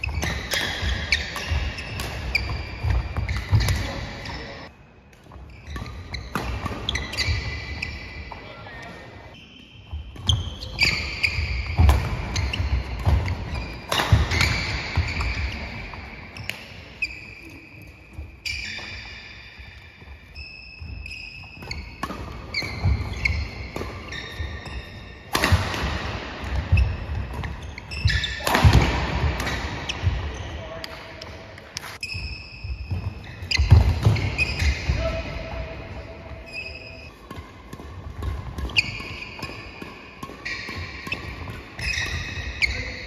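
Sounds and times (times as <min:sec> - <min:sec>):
racket hitting shuttlecock: 0:00.0 - 0:04.4, 0:05.1 - 0:08.4, 0:10.1 - 0:17.2, 0:21.0 - 0:43.0
shoe squeaks: 0:00.0 - 0:04.7, 0:05.4 - 0:25.4, 0:26.5 - 0:28.6, 0:29.4 - 0:31.2, 0:31.8 - 0:43.0.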